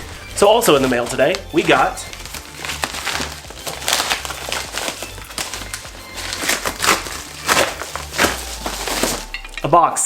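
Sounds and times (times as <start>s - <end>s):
plastic bag crinkling: 0.0s - 9.7s
background music: 0.0s - 10.0s.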